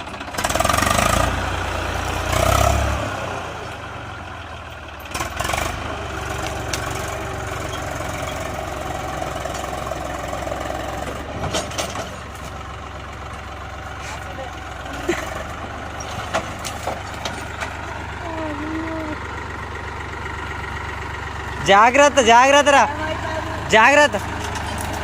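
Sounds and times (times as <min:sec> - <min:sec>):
tractor diesel engine revving: 0:00.0 - 0:25.0.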